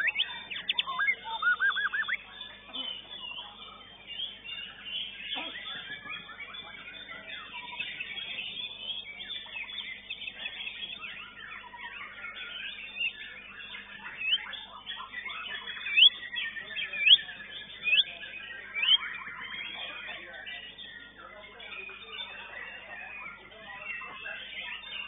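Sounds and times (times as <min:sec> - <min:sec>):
songbirds chirping and trilling: 0:00.0 - 0:25.0.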